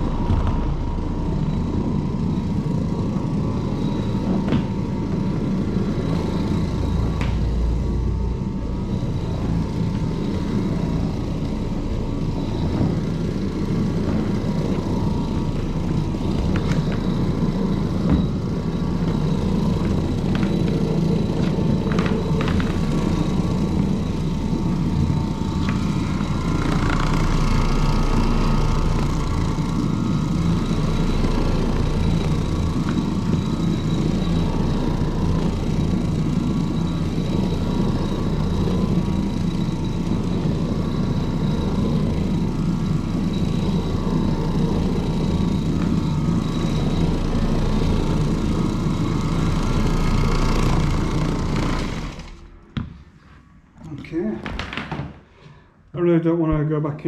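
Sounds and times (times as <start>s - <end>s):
carpet cleaning machine rumbling: 0.0s - 55.7s.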